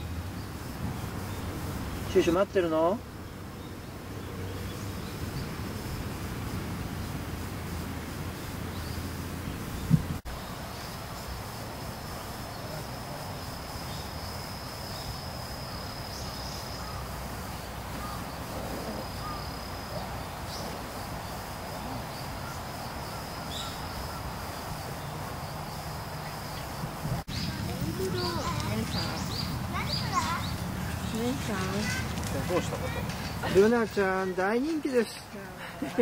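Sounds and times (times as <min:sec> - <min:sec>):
insect high-pitched trill: 0:04.5 - 0:36.0.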